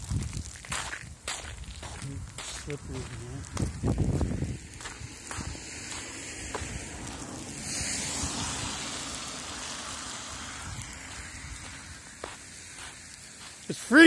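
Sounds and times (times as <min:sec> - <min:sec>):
wind buffeting microphone: 0:00.0 - 0:13.0
freezing rain hissing: 0:00.0 - 0:14.0.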